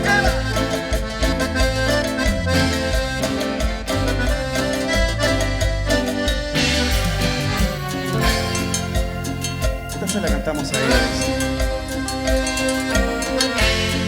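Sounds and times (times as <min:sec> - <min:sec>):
accordion melody: 0:00.0 - 0:14.0
bass: 0:00.0 - 0:14.0
steady drum beat: 0:00.0 - 0:14.0.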